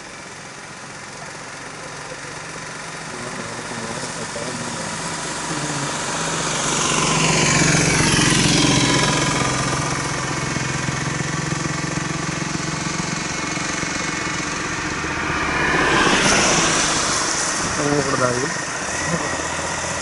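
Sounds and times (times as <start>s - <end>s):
auto-rickshaw passing: 0.0s - 20.0s
vehicle approaching: 0.0s - 20.0s
vehicle engine hum: 0.0s - 20.0s.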